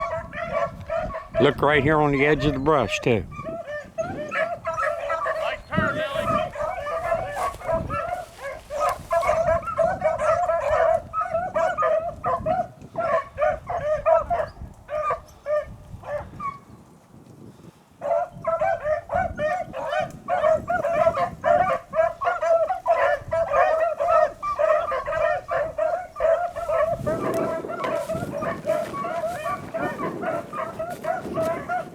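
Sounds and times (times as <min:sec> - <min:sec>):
beagles baying: 0:00.0 - 0:16.7, 0:18.0 - 0:31.9.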